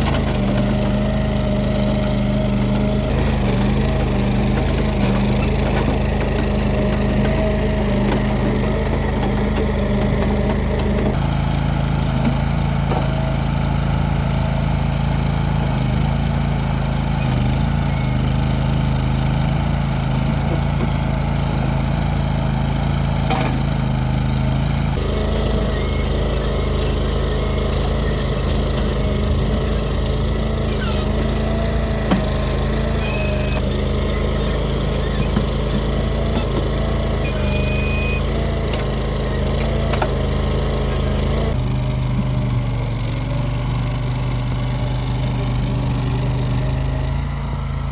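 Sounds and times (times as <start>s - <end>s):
track loader engine running: 0.0s - 47.9s.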